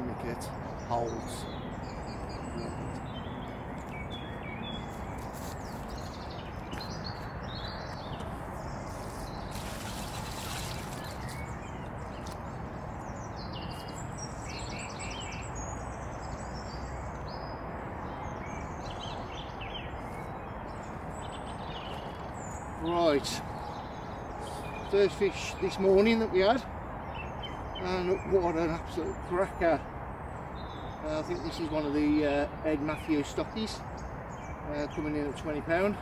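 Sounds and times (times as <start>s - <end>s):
outdoor background hiss and rumble: 0.0s - 36.0s
small birds chirping: 0.0s - 36.0s.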